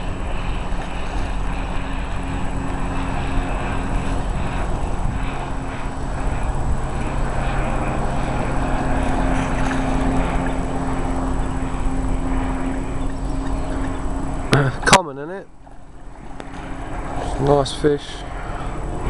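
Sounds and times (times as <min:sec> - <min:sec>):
low rumble: 0:00.0 - 0:19.0
steady engine drone: 0:00.0 - 0:19.0.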